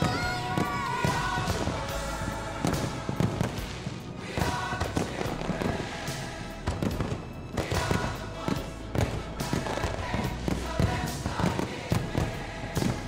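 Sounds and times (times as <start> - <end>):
fireworks banging: 0.0 - 13.0
loud music: 0.0 - 13.0.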